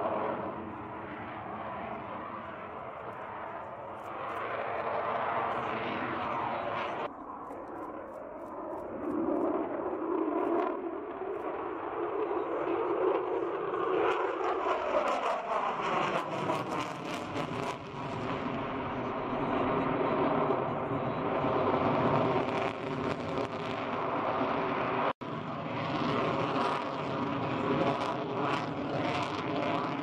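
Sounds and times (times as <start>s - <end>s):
jet engines thundering: 0.0s - 30.0s.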